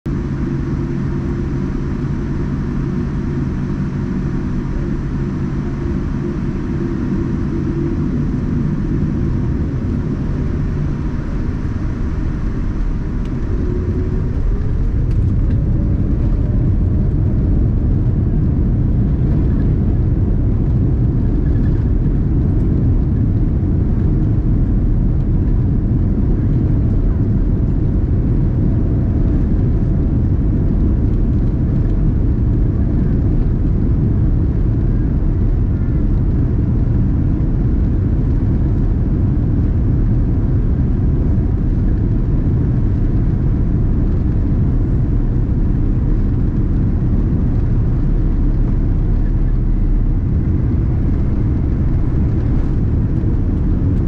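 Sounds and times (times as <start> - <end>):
jet engines and runway rumble: 0.0 - 54.0.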